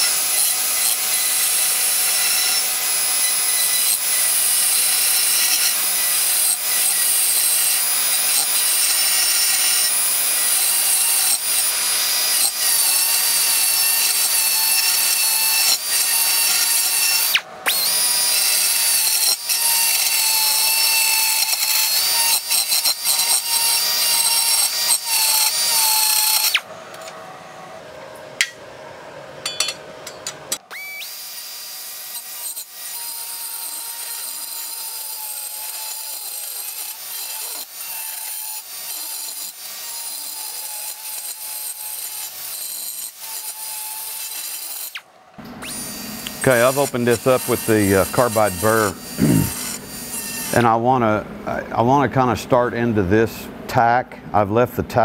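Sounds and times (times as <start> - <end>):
rotary tool whining: 0.0 - 27.8, 29.4 - 50.7.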